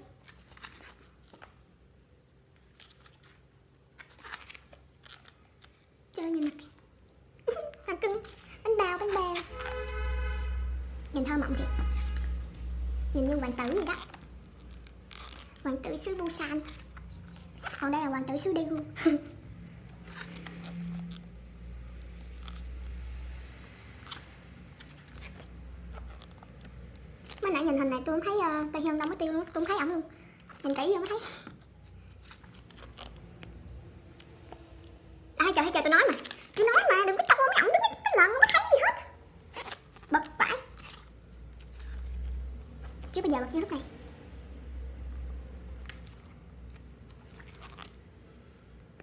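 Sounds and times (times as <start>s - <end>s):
glossy pages rustling: 0.0s - 10.0s, 11.0s - 49.0s.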